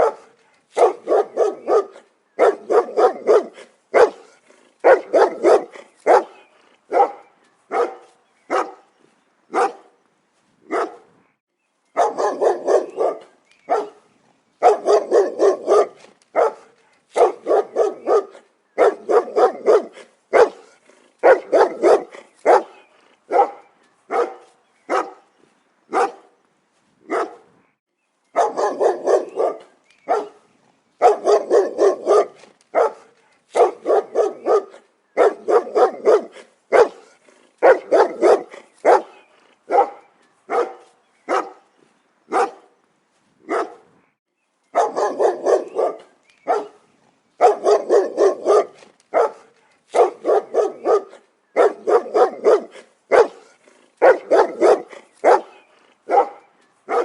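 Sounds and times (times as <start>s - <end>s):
dog barking: 0.0s - 8.9s, 9.5s - 10.0s, 10.7s - 11.1s, 12.0s - 14.0s, 14.6s - 25.2s, 25.9s - 26.3s, 27.1s - 27.5s, 28.4s - 30.4s, 31.0s - 41.7s, 42.3s - 42.7s, 43.5s - 43.9s, 44.7s - 46.8s, 47.4s - 57.0s.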